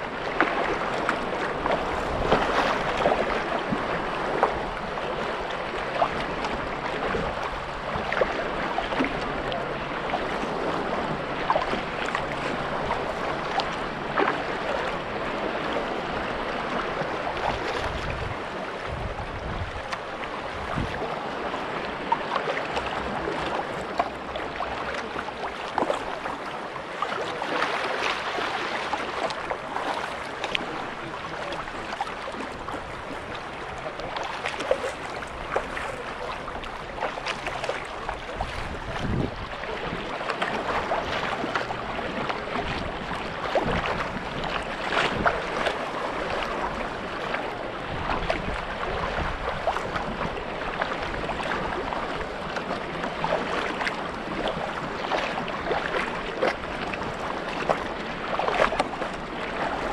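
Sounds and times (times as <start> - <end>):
paddle splashing: 0.0 - 59.9
ripples lapping against hull: 0.0 - 59.9.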